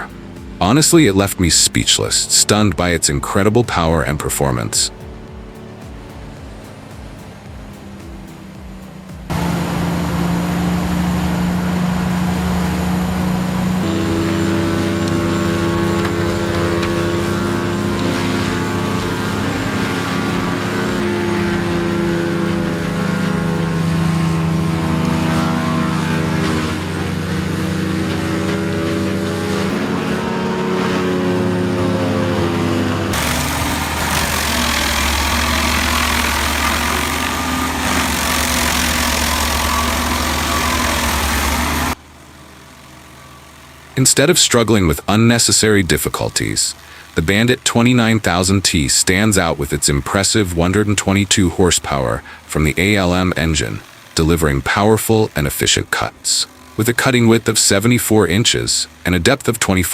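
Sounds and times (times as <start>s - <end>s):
wood chipper engine running: 0.0s - 59.9s.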